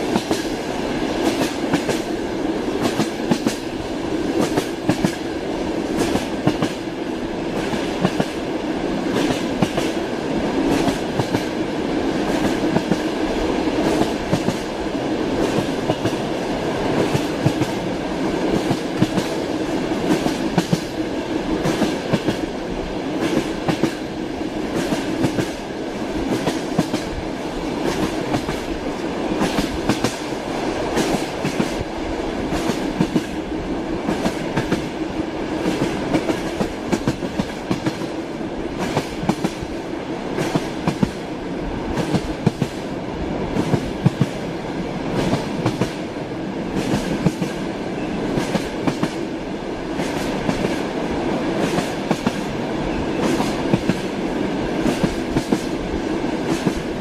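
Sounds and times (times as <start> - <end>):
train running noise: 0.0 - 57.0
train wheels clattering on rails: 0.0 - 57.0.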